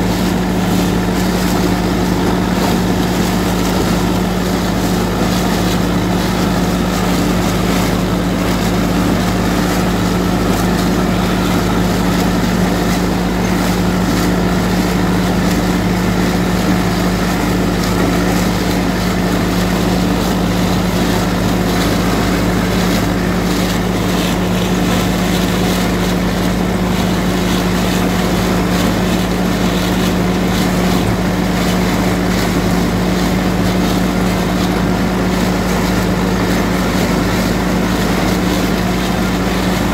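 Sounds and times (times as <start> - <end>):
corn picker machinery running: 0.0 - 39.9
tractor diesel engine under load: 0.0 - 39.9.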